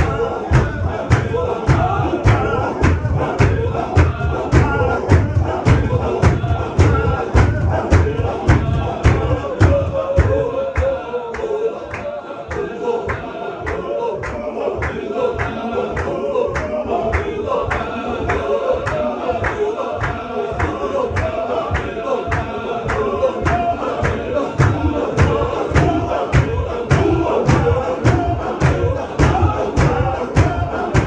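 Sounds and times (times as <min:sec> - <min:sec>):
men chanting in unison: 0:00.0 - 0:31.0
sharp rhythmic beat: 0:00.0 - 0:31.0.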